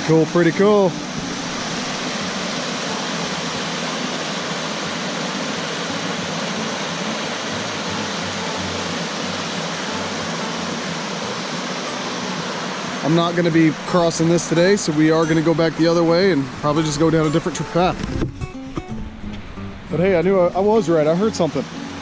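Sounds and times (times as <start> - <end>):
creek running over rocks: 0.0 - 22.0.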